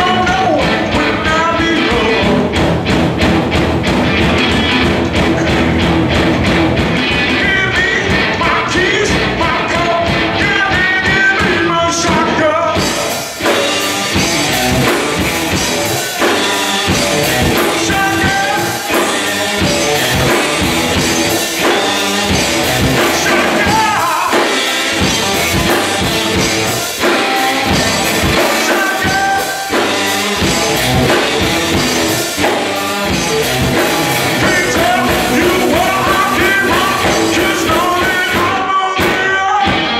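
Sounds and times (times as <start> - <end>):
person singing lead vocal: 0.0 - 2.8, 4.4 - 6.2, 7.1 - 39.9
drum kit: 0.0 - 39.9
electric guitar: 0.0 - 39.9.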